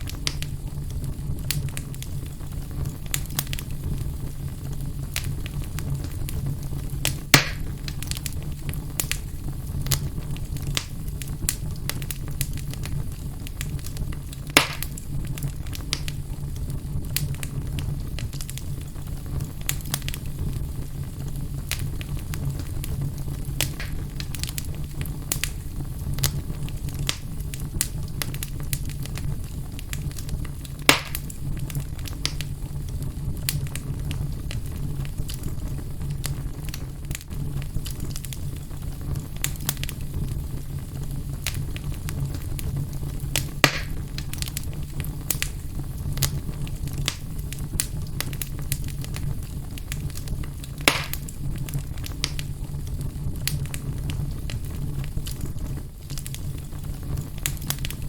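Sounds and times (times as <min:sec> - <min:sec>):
fire crackling in a fireplace: 0:00.0 - 0:58.0
loud fire pops: 0:00.0 - 0:58.0.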